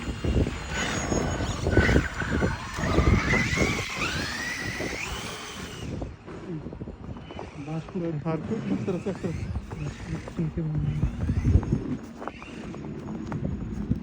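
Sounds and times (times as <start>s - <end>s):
gusty low rumble: 0.0s - 14.0s
toy car motor whining: 0.0s - 14.0s.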